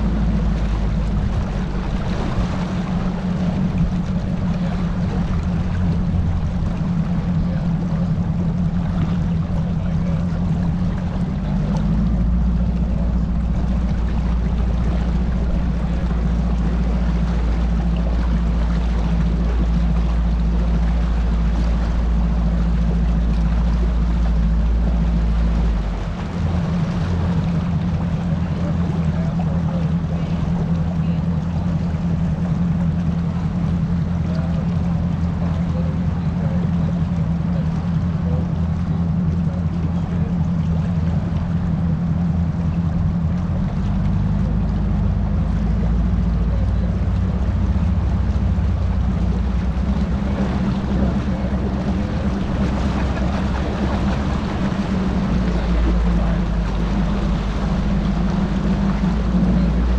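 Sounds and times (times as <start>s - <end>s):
deep low rumble: 0.0s - 59.9s
outboard motor running: 0.0s - 59.9s.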